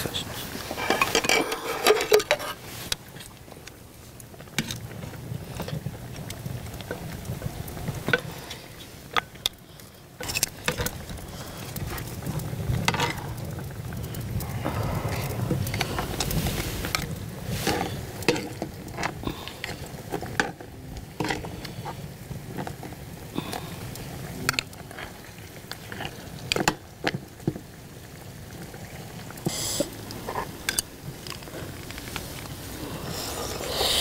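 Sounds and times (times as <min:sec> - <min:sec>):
sauce simmering: 0:00.2 - 0:34.0.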